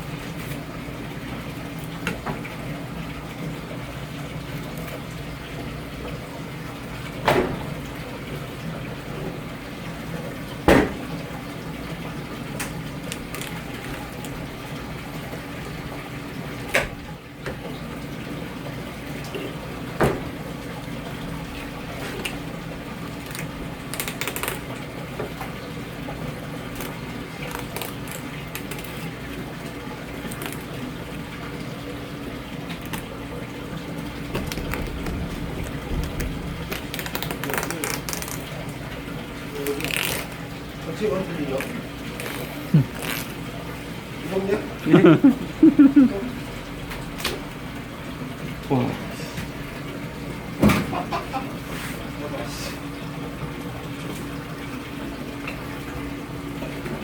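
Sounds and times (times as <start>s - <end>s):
tap water running into sink: 0.0s - 52.2s.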